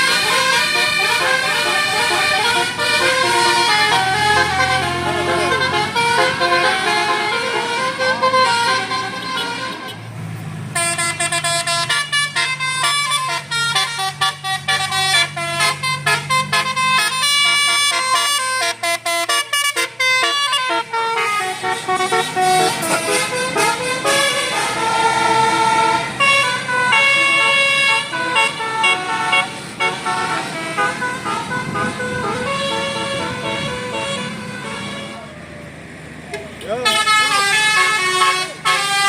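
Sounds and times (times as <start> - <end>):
musical air horn tune: 0.0 - 10.0, 10.8 - 35.3, 36.8 - 39.0
bus engine running: 0.0 - 39.0.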